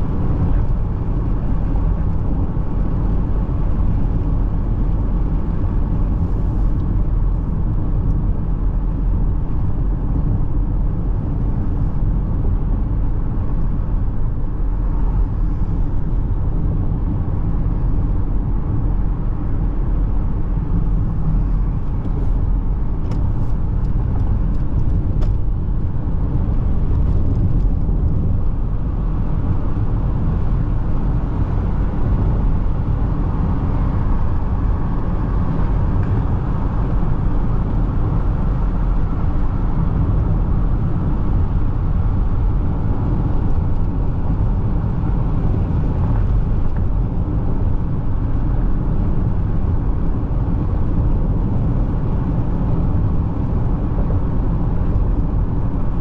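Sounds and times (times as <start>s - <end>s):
car driving at speed: 0.0s - 56.0s.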